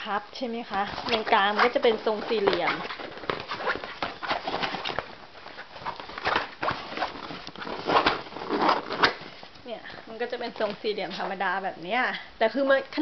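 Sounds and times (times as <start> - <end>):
plastic bag crinkling: 0.6 - 11.9.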